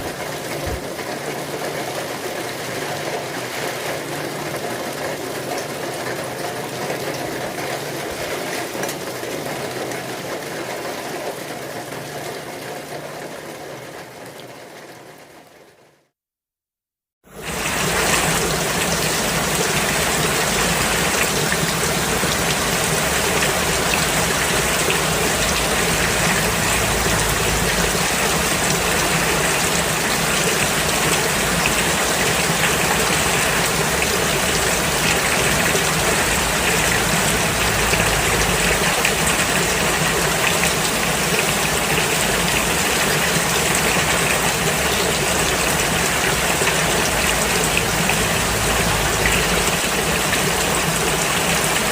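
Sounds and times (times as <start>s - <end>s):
rain falling steadily: 0.0s - 16.1s, 17.2s - 51.9s.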